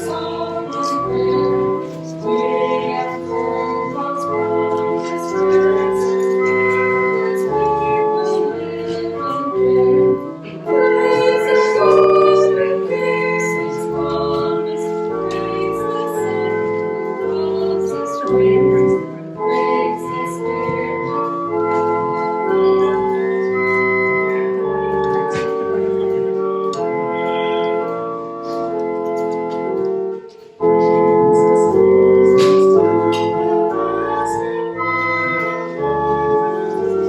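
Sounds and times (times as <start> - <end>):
church organ chords: 0.0 - 37.0.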